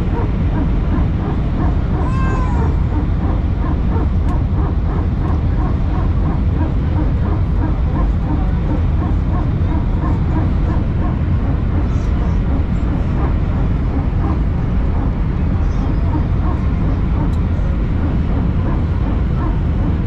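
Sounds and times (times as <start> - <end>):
airliner engine and airflow rumble: 0.0 - 20.0.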